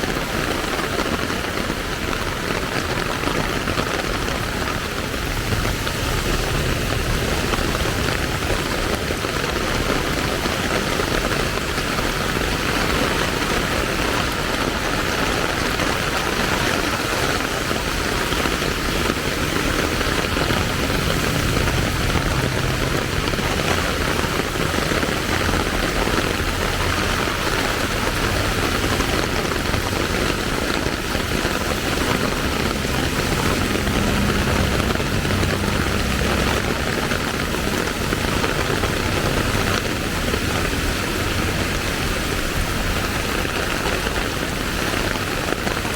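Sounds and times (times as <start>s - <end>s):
rain hissing: 0.0s - 45.9s
vehicle engines humming: 0.0s - 45.9s.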